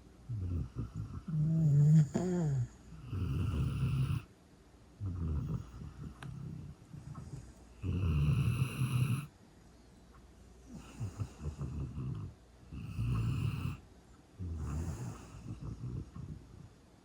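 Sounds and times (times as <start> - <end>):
snoring: 0.3 - 4.3, 5.0 - 9.3, 10.7 - 13.8, 14.4 - 16.6.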